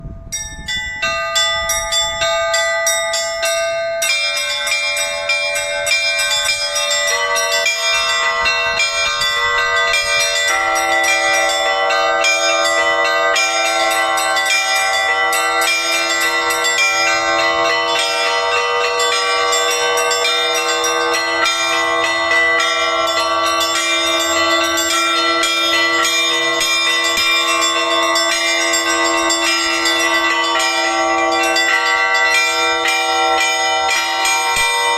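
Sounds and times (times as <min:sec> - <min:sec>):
large low church bells: 0:00.0 - 0:34.9
small high church bells: 0:00.0 - 0:34.9.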